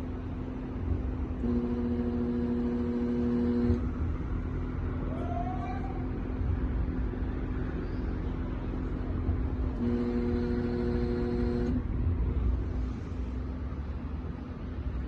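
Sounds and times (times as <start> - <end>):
air conditioner compressor humming: 0.0 - 13.2.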